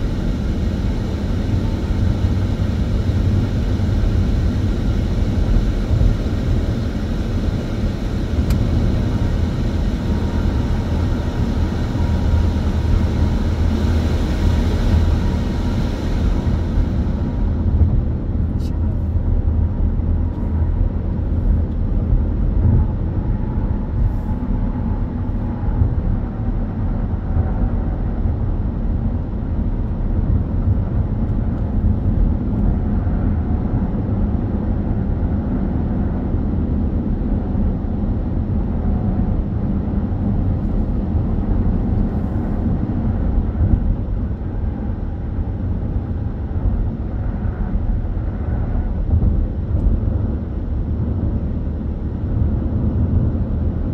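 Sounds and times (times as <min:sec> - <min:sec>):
car road noise from cabin: 0:00.0 - 0:53.9.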